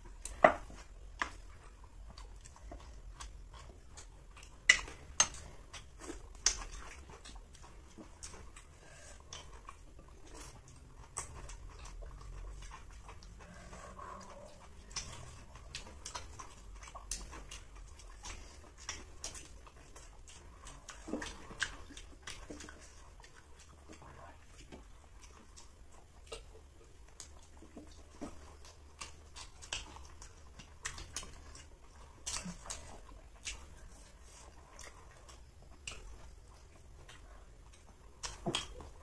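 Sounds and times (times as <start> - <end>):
chewing and lip smacking: 0.0 - 39.0.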